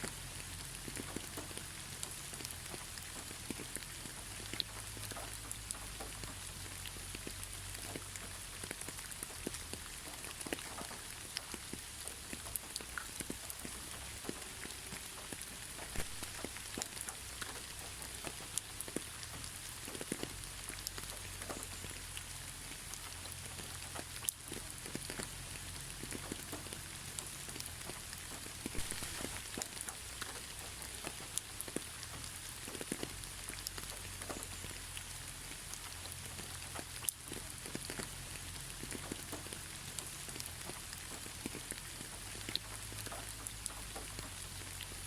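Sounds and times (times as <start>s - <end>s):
gentle rain pattering: 0.0s - 45.0s.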